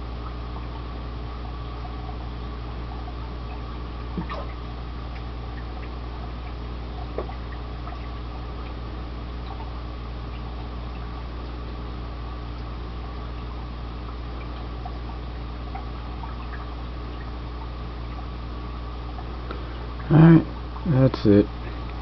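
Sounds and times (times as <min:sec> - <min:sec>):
aquarium pump humming: 0:00.0 - 0:22.0
water bubbling and trickling: 0:00.0 - 0:22.0.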